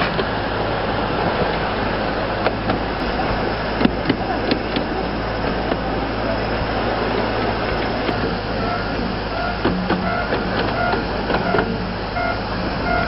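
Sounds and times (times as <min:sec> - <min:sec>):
train wheels rumbling on track: 0:00.0 - 0:13.0
high wheel squeaks: 0:02.4 - 0:13.0
rail clicks: 0:02.4 - 0:13.0.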